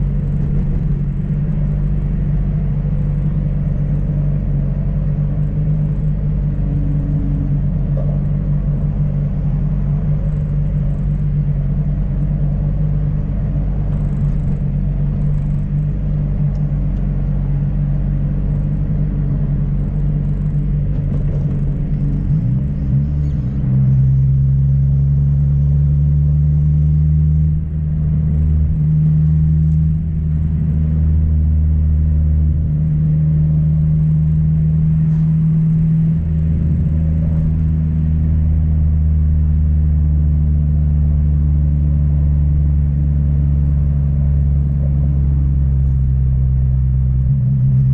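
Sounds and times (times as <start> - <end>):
car engine drone: 0.0 - 47.9
road noise: 0.0 - 47.9.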